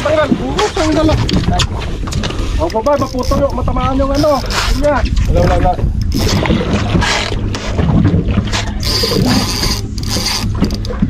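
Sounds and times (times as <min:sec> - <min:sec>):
boat engine humming: 0:00.0 - 0:11.0
wind: 0:00.0 - 0:11.0.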